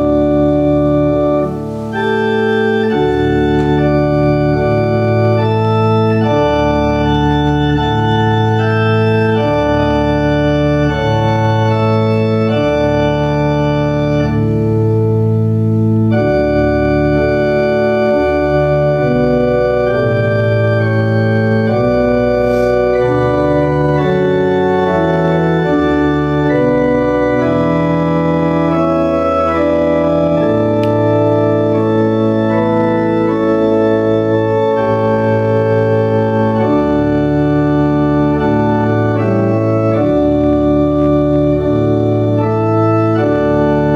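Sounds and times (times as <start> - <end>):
organ playing held chords: 0.0 - 43.9.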